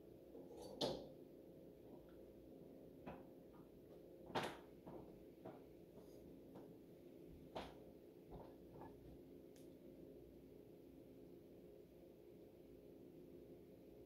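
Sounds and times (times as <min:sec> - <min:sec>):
low appliance hum: 0:00.0 - 0:14.0.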